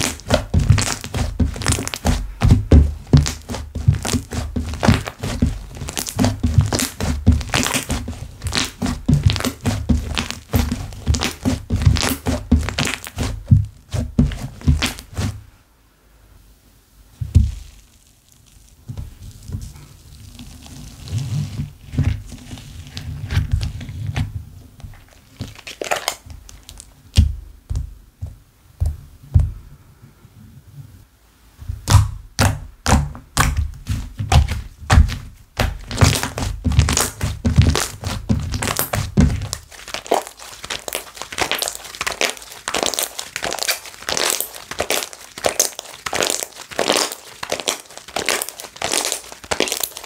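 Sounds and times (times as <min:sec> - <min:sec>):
hands squeezing slime: 0:00.0 - 0:15.4, 0:17.3 - 0:24.3, 0:24.9 - 0:27.2, 0:31.8 - 0:50.0.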